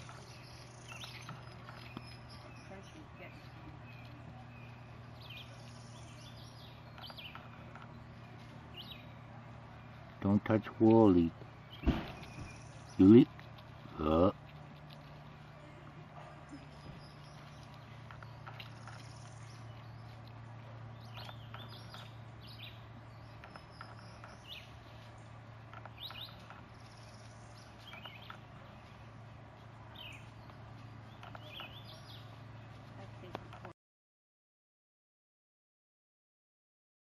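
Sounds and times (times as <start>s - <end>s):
birds chirping: 0.0s - 33.7s
faint low hum: 0.0s - 33.7s.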